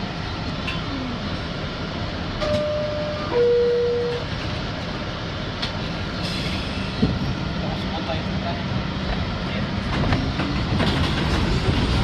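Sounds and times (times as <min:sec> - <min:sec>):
subway car hum: 0:00.0 - 0:12.0.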